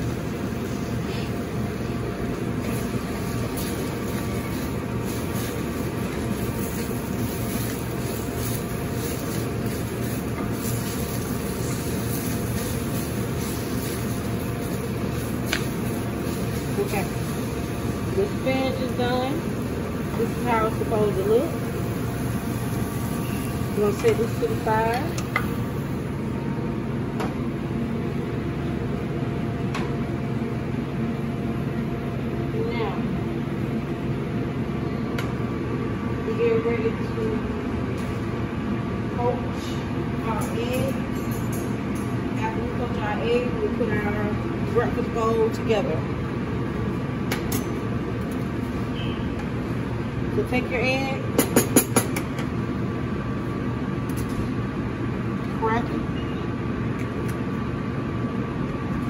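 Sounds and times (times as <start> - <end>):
gas burners and ventilation rumble: 0.0 - 59.0.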